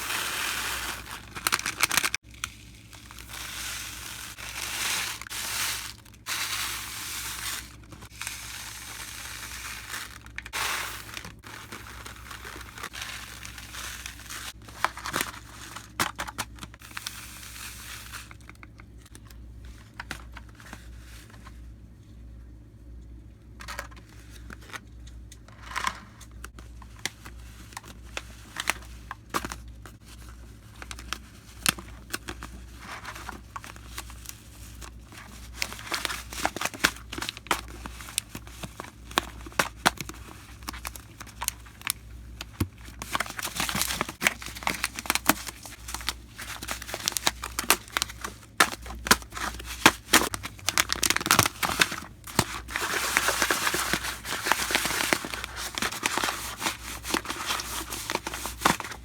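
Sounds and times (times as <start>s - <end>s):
plastic packaging crinkling: 0.0s - 21.4s, 26.4s - 59.0s.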